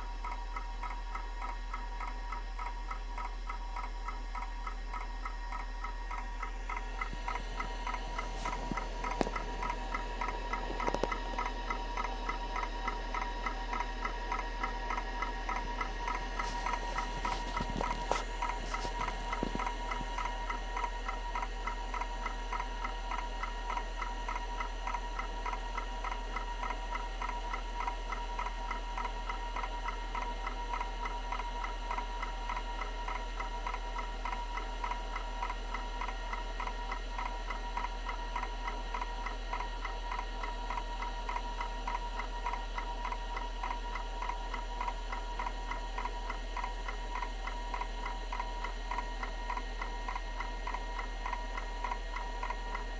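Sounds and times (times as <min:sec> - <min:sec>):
hard drive heads ticking: 0:00.0 - 0:52.9
hard drive whine: 0:00.0 - 0:52.9.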